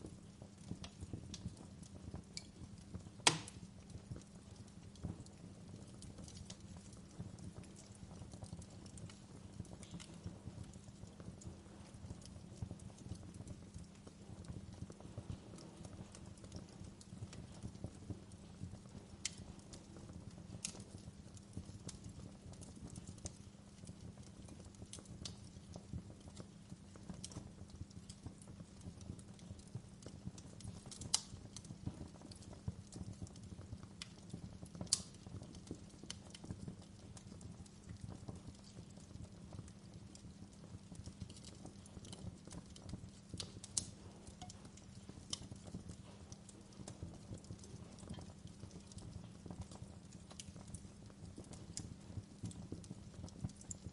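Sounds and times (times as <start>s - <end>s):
fire crackling: 0.0s - 53.9s
low rumble of flames: 0.0s - 53.9s
wood fire popping: 0.0s - 53.9s.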